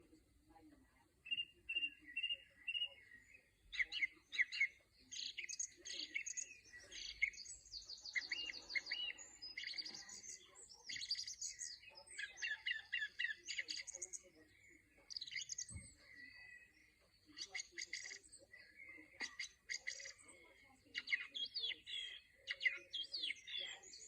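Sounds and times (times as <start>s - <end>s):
songbirds chirping and singing: 0.0s - 24.0s.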